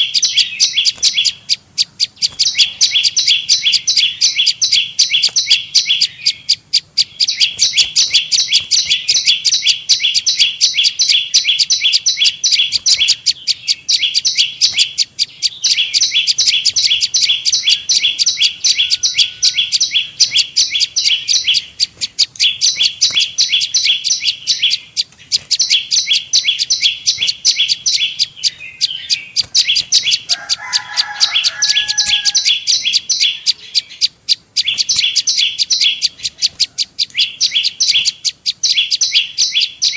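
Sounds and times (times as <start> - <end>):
lower drawn-out bird call: 0.0 - 21.9, 25.6 - 39.9
bird sharp repeated chirps: 0.0 - 39.9.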